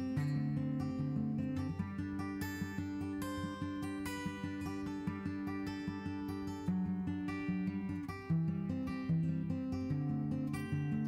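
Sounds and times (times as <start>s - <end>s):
guitar music: 0.0s - 11.0s.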